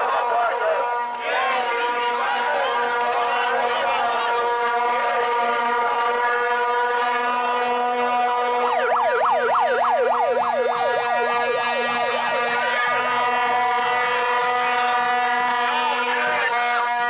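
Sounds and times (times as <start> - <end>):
vuvuzela horns droning: 0.0 - 17.0
yelping siren: 1.0 - 17.0.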